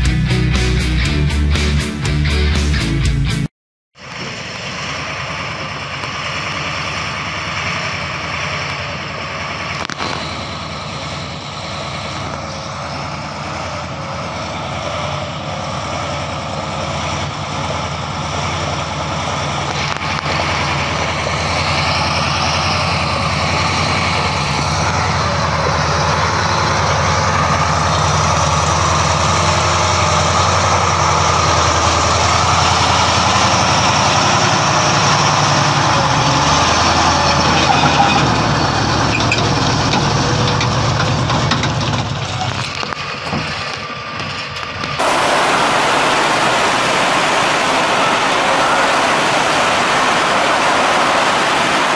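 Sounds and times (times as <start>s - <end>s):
truck diesel engine in mud: 4.0s - 51.9s.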